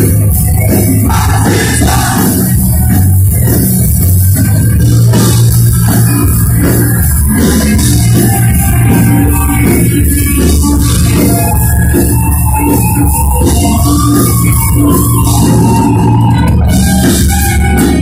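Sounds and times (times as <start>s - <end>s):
bass guitar: 0.0s - 18.0s
drum kit: 0.0s - 18.0s
electric guitars: 0.0s - 18.0s.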